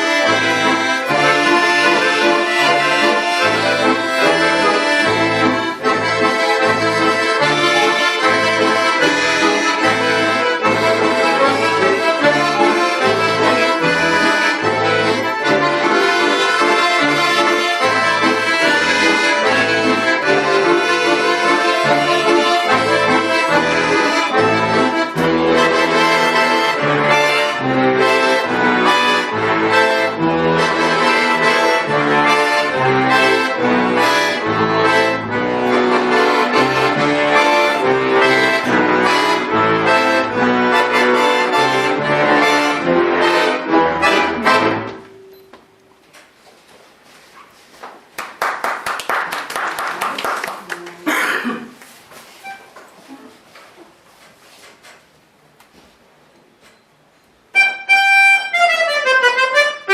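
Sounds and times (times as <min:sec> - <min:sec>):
accordion playing folk music: 0:00.0 - 0:45.5, 0:52.1 - 0:53.3, 0:57.4 - 0:59.9.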